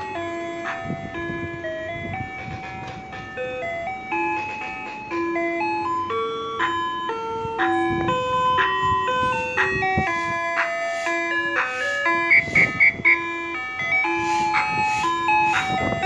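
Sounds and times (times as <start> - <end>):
ice cream truck chime jingle: 0.0 - 16.0.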